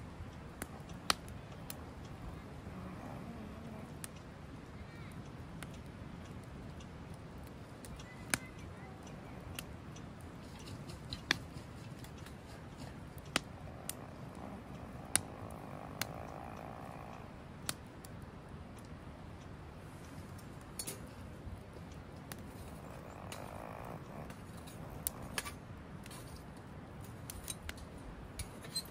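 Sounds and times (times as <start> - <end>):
fire popping: 0.0 - 28.9
low steady hiss: 0.0 - 28.9
wood fire crackling: 0.0 - 28.9.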